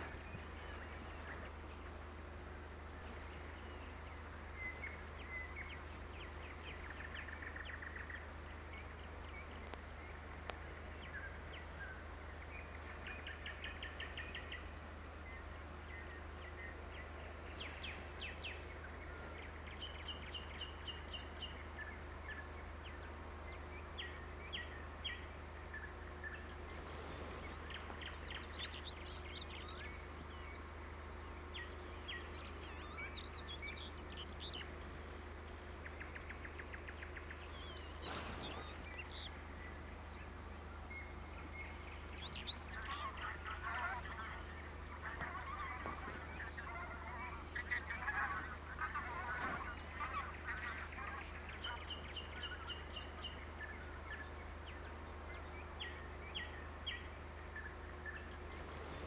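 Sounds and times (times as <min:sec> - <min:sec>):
songbirds chirping and trilling: 0:00.0 - 0:59.0
steady low hum: 0:00.0 - 0:59.0.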